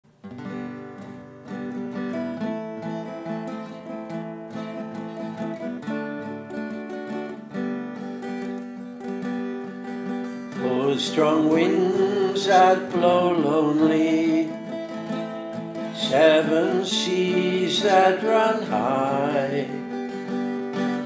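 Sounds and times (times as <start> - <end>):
acoustic guitar strumming: 0.1 - 21.0.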